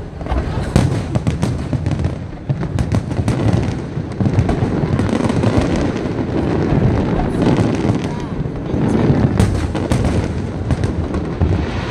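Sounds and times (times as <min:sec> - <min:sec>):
fireworks booming: 0:00.0 - 0:11.9
fireworks cracks and pops: 0:00.0 - 0:11.9.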